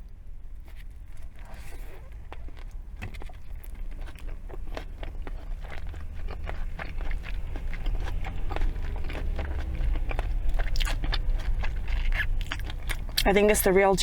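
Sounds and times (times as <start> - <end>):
close-miked chewing: 0.0 - 14.0
crunching of pickles and onion: 0.0 - 14.0.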